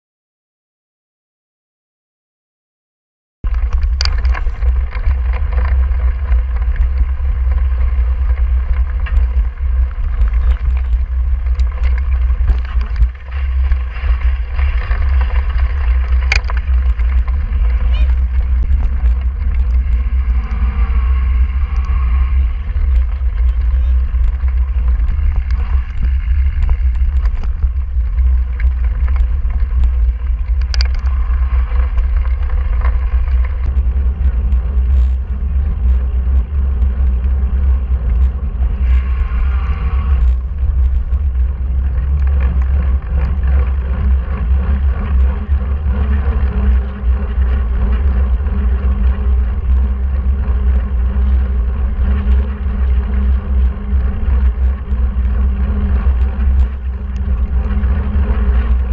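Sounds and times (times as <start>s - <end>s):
bike tyres rolling: 3.4s - 58.9s
wind buffeting microphone: 3.4s - 58.9s
small rattling clicks: 3.5s - 39.1s, 40.2s - 58.9s.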